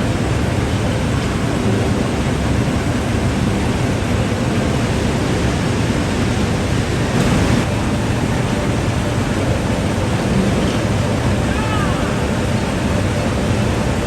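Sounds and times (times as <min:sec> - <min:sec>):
steel mill machinery running: 0:00.0 - 0:14.0.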